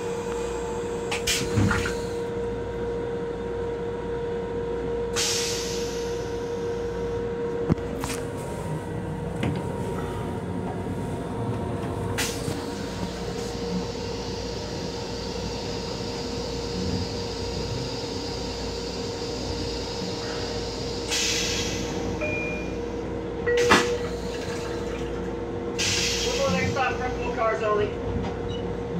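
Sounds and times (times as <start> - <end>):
train rumble: 0.0 - 28.9.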